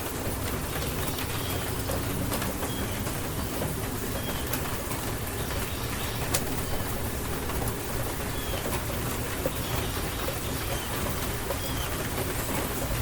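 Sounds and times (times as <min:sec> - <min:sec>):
steady rain: 0:00.0 - 0:13.0
birds chirping: 0:00.5 - 0:13.0.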